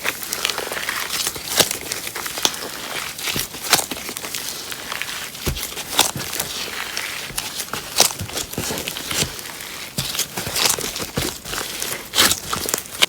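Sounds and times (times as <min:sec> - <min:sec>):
slime crackling and popping: 0:00.0 - 0:13.0.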